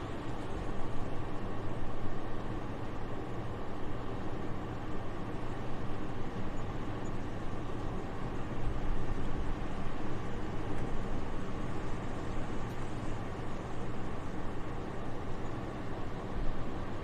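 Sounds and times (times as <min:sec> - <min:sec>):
soft wind: 0:00.0 - 0:17.0.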